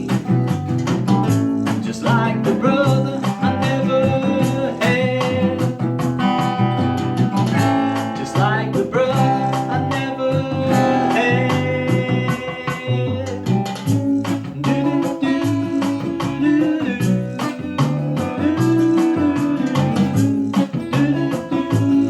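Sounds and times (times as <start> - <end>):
guitar playing: 0.0 - 22.0
latin rhythm bass and drums: 0.0 - 22.0.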